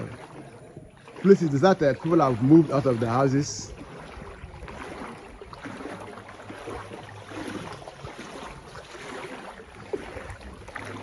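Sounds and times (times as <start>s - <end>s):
floodwater sloshing and lapping: 0.0s - 11.0s.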